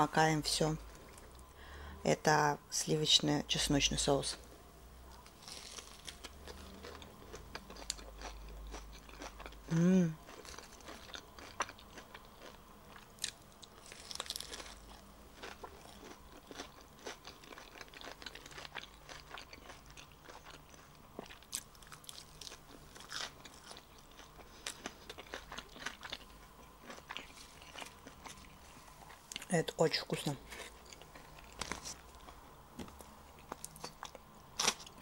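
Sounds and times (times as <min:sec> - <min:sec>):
crunching and chewing lettuce: 0:05.1 - 0:35.0.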